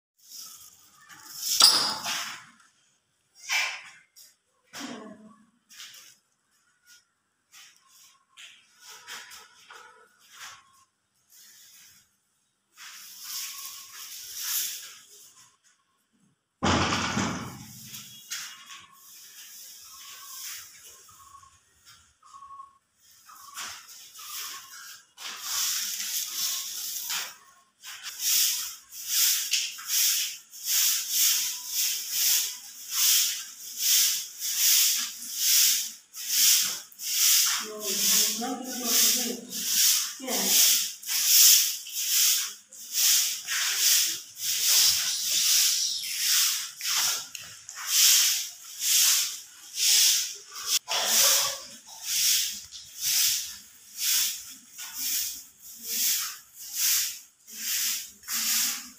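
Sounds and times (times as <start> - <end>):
broom sweeping concrete floor: 0.2 - 16.0, 16.6 - 58.9.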